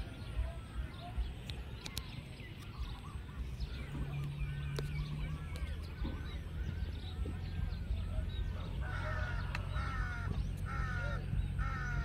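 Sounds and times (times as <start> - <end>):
birds chirping: 0.0 - 12.0
low rumble: 0.0 - 12.0
low steady hum: 0.0 - 12.0.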